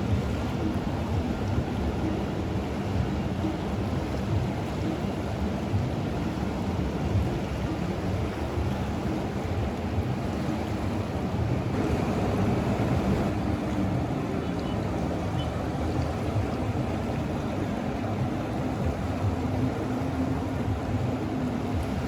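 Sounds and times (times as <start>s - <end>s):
river rushing: 0.0s - 22.0s
wind: 0.0s - 22.0s.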